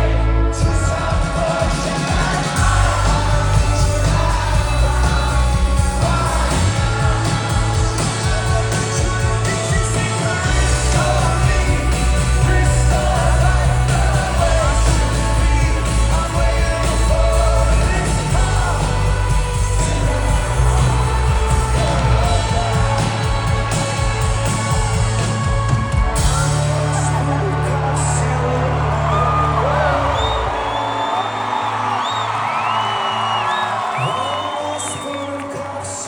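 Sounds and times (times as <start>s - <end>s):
rock band playing loudly: 0.0s - 32.4s
lead singer's voice: 0.0s - 36.0s.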